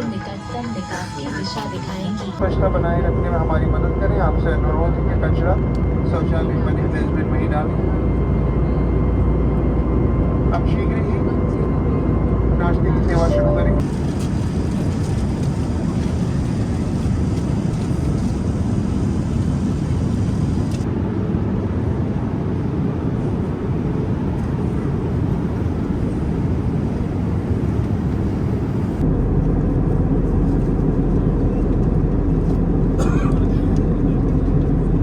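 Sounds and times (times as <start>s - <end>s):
jet engine rumble and rushing air: 1.8s - 35.0s.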